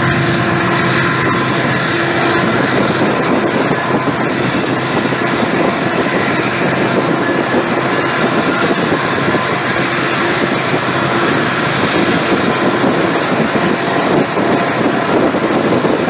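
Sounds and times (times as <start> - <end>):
train wheels rolling on track: 0.0 - 16.0.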